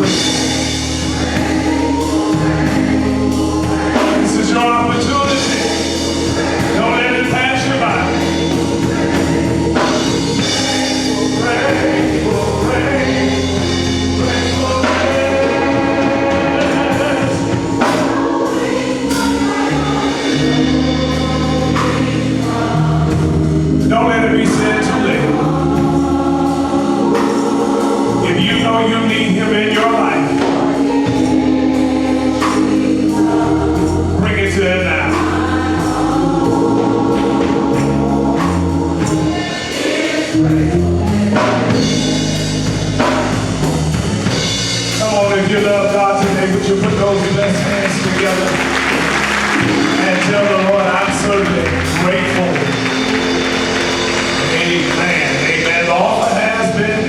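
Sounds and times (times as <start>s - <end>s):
gospel choir singing: 0.0s - 57.0s
low bass notes: 0.0s - 57.0s
organ chords: 0.0s - 57.0s.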